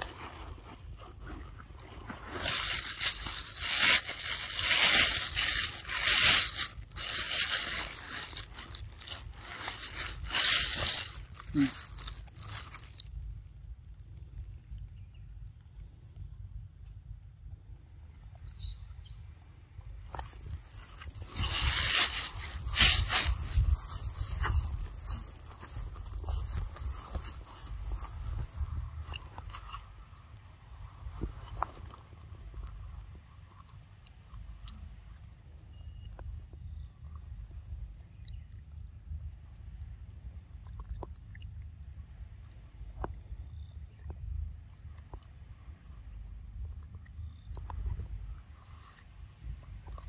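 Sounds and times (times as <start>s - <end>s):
rustling and crunching fruit: 0.0s - 13.4s, 19.8s - 50.0s.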